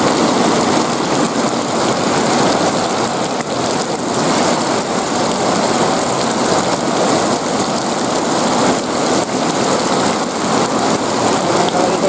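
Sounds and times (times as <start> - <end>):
heavy rain on wet pavement: 0.0 - 12.0.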